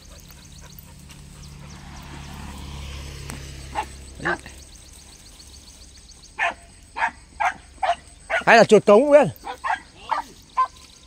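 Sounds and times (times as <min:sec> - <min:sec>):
dogs yelping: 0:00.0 - 0:11.0.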